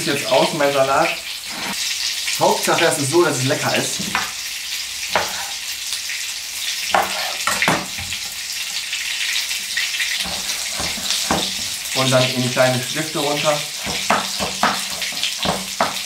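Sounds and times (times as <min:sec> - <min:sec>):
mushrooms sizzling in oil: 0:00.0 - 0:16.0.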